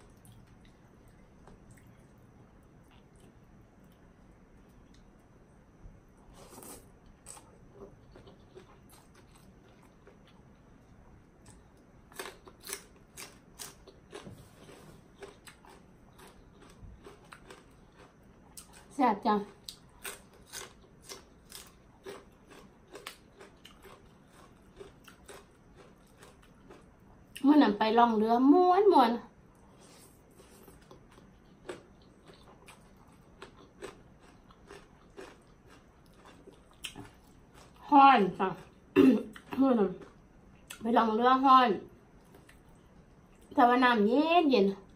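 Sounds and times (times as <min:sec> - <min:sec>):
chewing crunchy food: 0:00.0 - 0:05.4, 0:06.3 - 0:10.7, 0:11.4 - 0:27.5, 0:29.5 - 0:40.8, 0:42.2 - 0:43.6.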